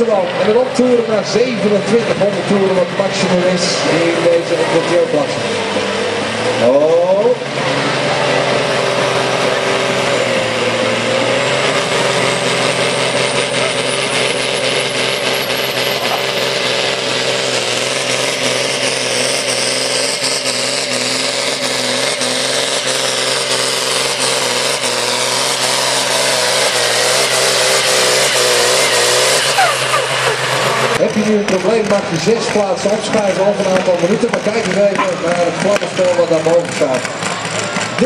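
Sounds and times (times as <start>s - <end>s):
diesel tractor engine at full power: 0.0s - 38.0s
high engine whine: 0.0s - 38.0s.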